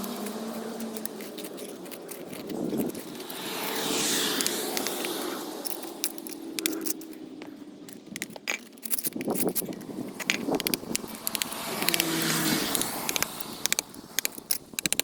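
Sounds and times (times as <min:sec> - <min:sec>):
grit clicks and scrapes: 0:00.0 - 0:15.0
hand tool scraping mortar: 0:00.0 - 0:15.0.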